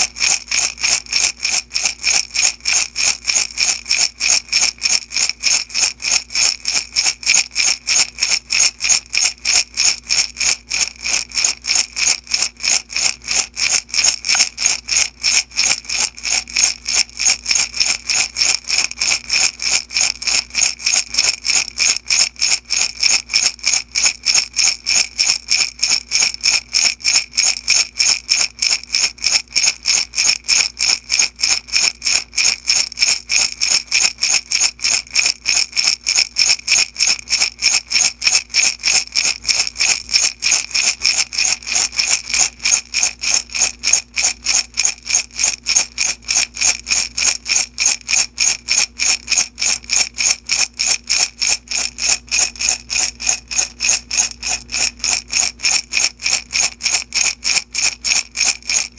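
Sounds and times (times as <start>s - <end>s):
beads rattling in glass jar: 0.0s - 58.9s.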